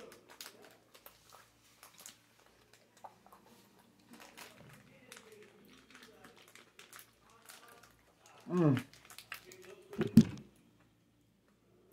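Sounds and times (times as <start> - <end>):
candy wrapper crinkling: 0.0 - 10.4
quiet chewing: 0.0 - 10.6.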